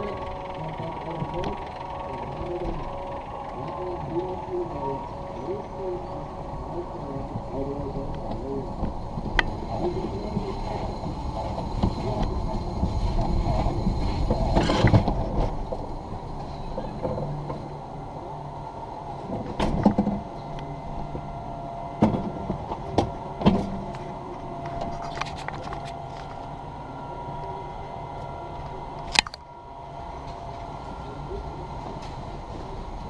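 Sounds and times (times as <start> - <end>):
mechanical lift hum: 0.0 - 33.0.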